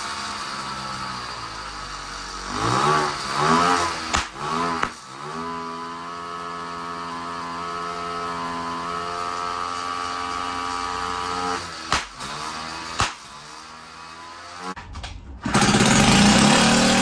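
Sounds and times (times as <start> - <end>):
small engine idling: 0.0 - 14.8, 15.4 - 17.0.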